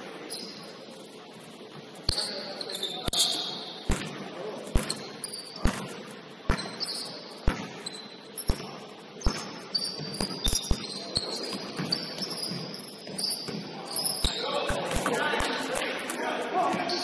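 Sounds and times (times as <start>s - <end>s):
sneakers squeaking on court: 0.0s - 17.0s.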